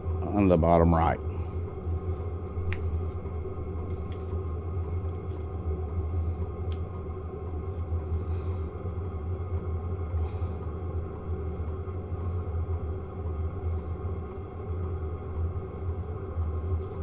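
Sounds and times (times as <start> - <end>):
diesel heater humming: 0.0 - 17.0.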